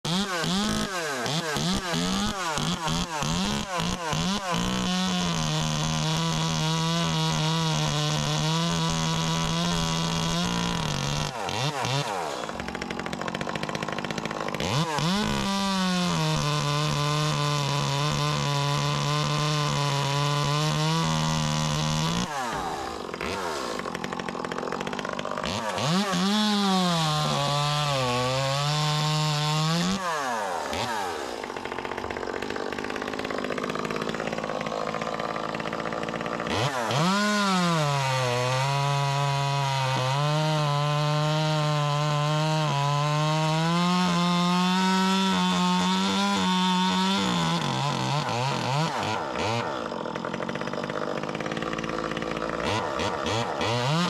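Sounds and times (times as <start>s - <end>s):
chainsaw cutting wood: 0.0s - 54.0s
chainsaw revving: 0.0s - 54.0s.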